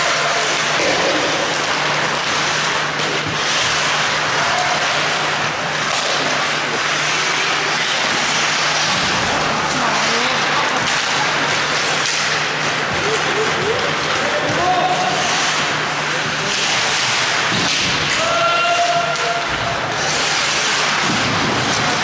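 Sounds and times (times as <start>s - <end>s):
steady low hum: 0.0s - 18.2s
skate blades scraping ice: 0.0s - 22.0s.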